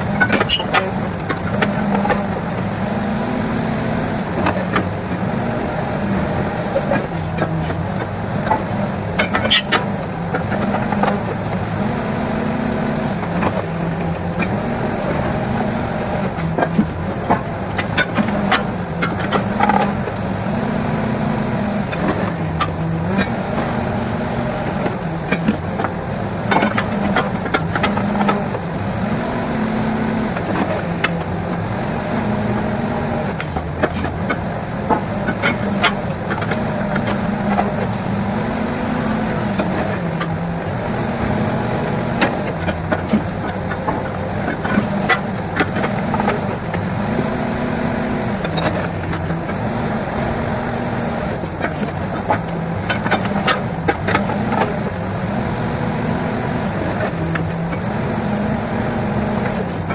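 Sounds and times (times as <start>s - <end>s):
drilling rig engine running: 0.0s - 59.9s.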